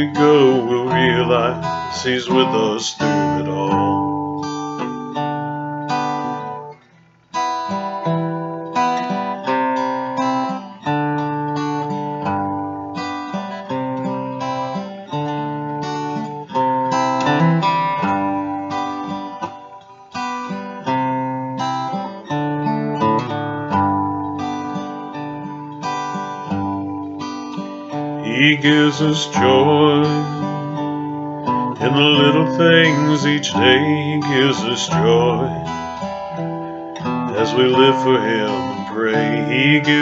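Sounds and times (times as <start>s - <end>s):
acoustic guitar strumming and picking: 0.0s - 40.0s.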